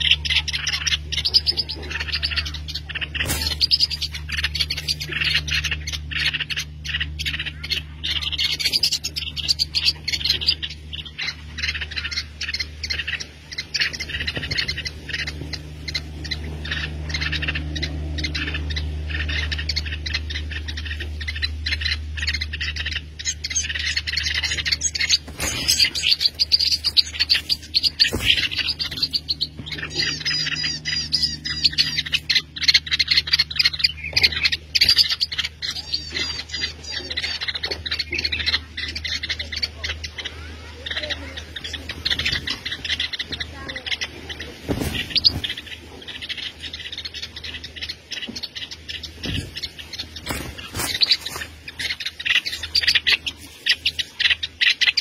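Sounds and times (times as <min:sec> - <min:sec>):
birds chirping: 0:00.0 - 0:55.0
steady low hum: 0:00.0 - 0:55.0.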